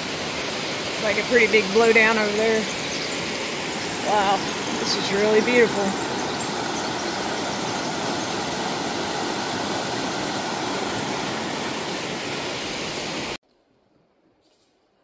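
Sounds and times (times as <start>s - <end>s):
creek rushing over stones: 0.0s - 13.4s.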